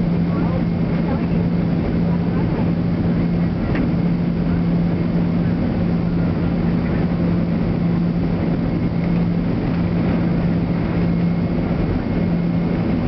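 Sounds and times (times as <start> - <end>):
jet engines drone in cabin: 0.0 - 13.0
low hum: 0.0 - 13.0.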